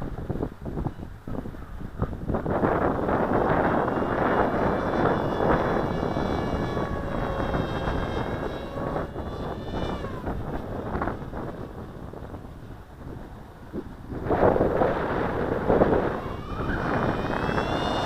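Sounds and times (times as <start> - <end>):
electric motor and propeller whine: 0.0 - 18.0
wind buffeting microphone: 0.0 - 18.0.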